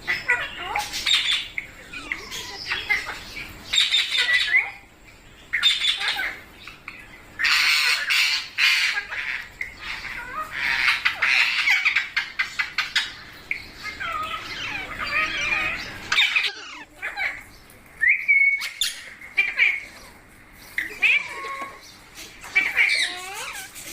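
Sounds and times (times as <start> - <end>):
parrots squawking and screeching: 0.0 - 23.9.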